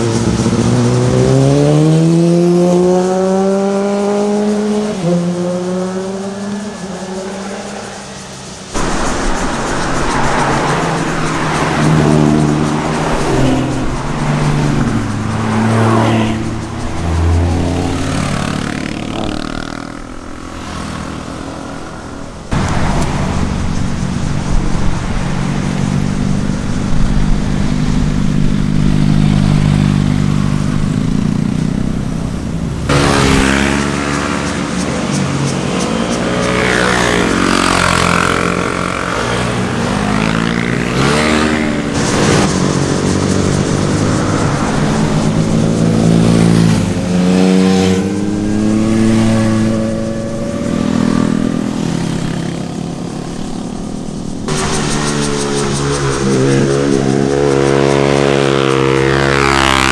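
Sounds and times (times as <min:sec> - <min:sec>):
motorcycles passing: 0:00.0 - 0:59.9.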